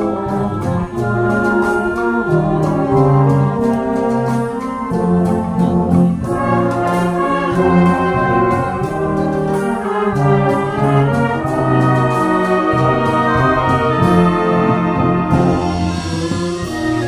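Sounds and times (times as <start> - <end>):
concert band playing: 0.0 - 17.0.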